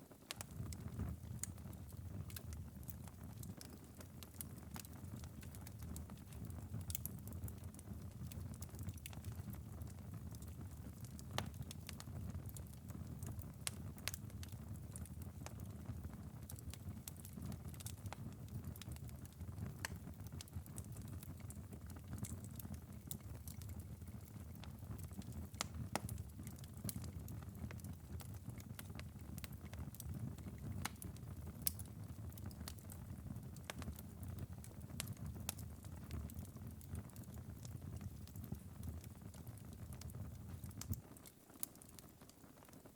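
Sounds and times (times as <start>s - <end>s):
fire crackling and popping: 0.1s - 42.9s
low fire rumble: 0.3s - 41.5s.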